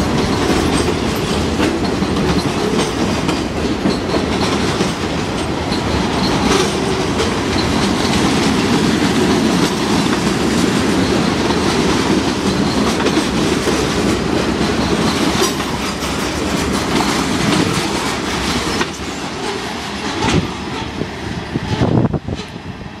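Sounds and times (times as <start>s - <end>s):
wheels clacking over rail joints: 0.0s - 22.7s
freight train rumbling past: 0.0s - 23.0s.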